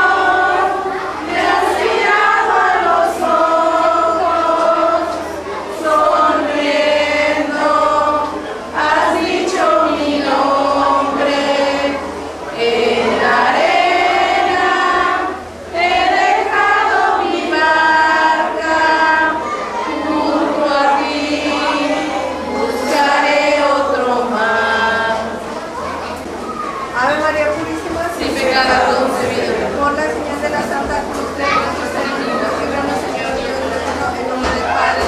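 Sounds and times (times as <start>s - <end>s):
congregation singing a hymn: 0.0s - 35.0s.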